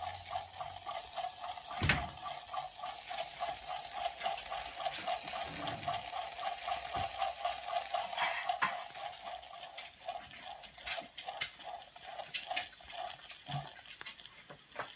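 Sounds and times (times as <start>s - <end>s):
toy steam engine hissing: 0.0s - 14.9s.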